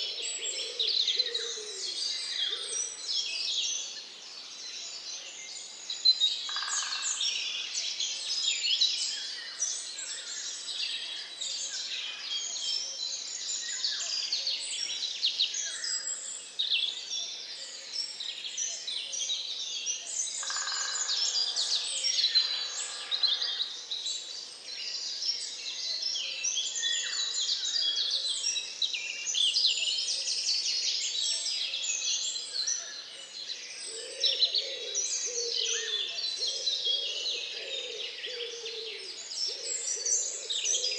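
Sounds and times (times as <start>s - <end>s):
many birds singing: 0.0s - 40.9s.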